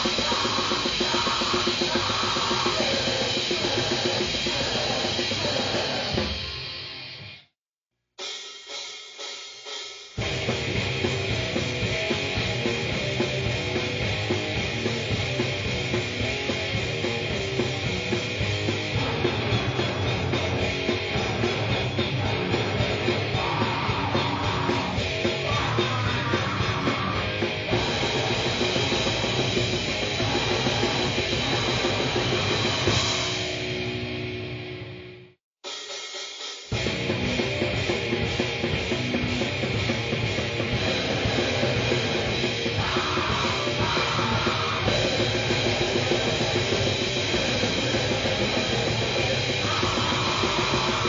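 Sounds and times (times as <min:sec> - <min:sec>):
fast drums and cymbals: 0:00.0 - 0:07.1, 0:08.2 - 0:34.2, 0:35.6 - 0:51.0
distorted guitar and bass: 0:00.0 - 0:07.5, 0:10.2 - 0:35.4, 0:36.7 - 0:51.0.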